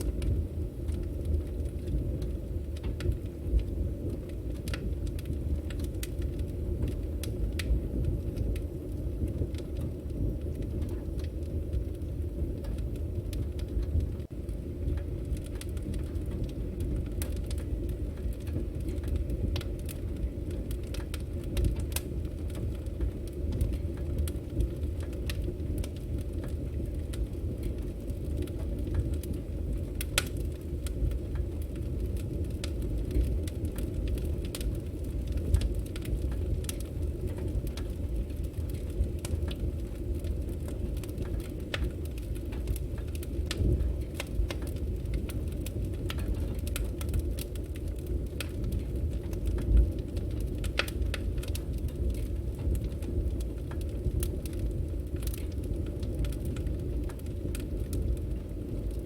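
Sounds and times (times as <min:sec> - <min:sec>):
firewood popping and snapping: 0:00.0 - 0:59.0
low rumble of flames: 0:00.0 - 0:59.0.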